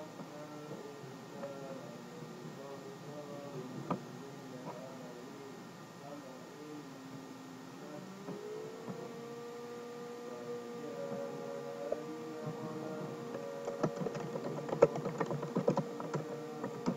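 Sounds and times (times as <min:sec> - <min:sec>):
electrical hum: 0:00.0 - 0:16.9.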